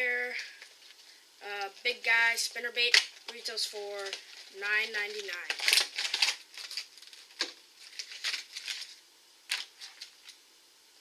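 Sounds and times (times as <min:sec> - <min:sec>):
plastic packaging crackling: 0:00.3 - 0:10.4.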